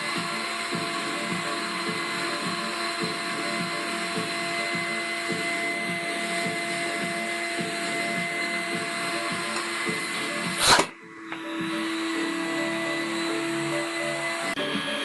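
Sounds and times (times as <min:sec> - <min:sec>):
vacuum motor high whine: 0:00.0 - 0:15.0.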